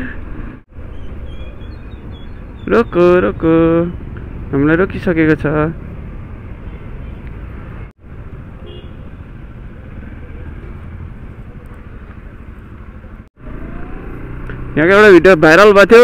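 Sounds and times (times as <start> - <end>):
motorcycle engines: 0.0 - 16.0
street traffic rumble: 0.0 - 16.0.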